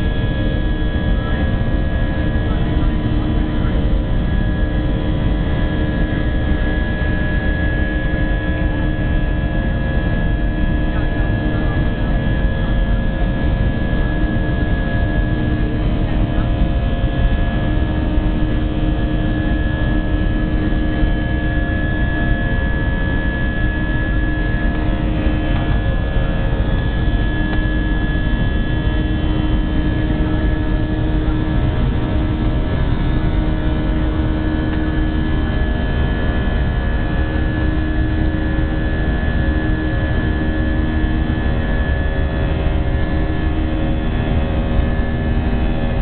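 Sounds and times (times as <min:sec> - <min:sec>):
jet engines droning in cabin: 0:00.0 - 0:46.0.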